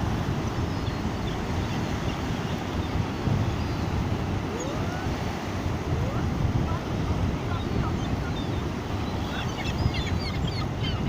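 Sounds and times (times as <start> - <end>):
surf: 0.0 - 11.0
wind: 0.0 - 11.0.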